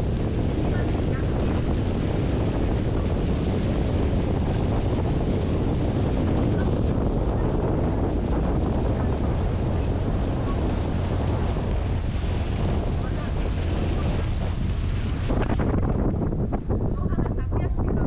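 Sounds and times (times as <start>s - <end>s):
boat engine rumble: 0.0s - 18.0s
wind buffeting microphone: 0.0s - 18.0s.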